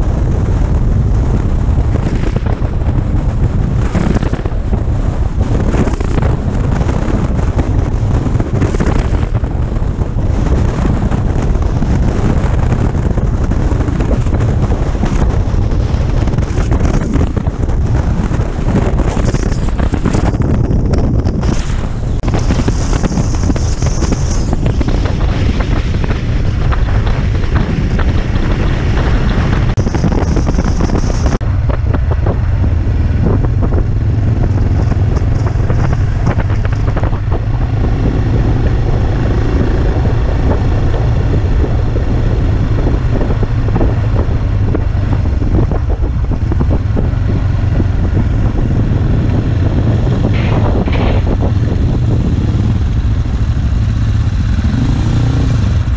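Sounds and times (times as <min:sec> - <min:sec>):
motorcycle engine droning: 0:00.0 - 0:55.9
tyre and road noise: 0:00.0 - 0:55.9
wind buffeting microphone: 0:00.0 - 0:55.9.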